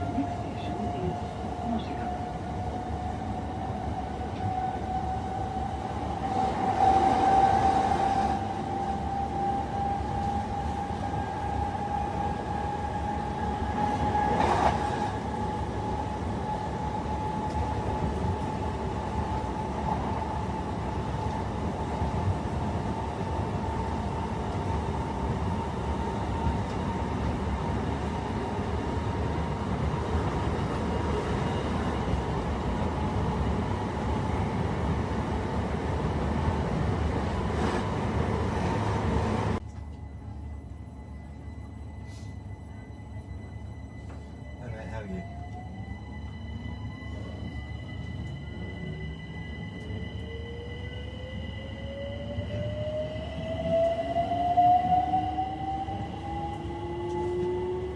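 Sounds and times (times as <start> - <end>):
wheels rumbling on rail: 0.0 - 40.6, 45.2 - 57.9.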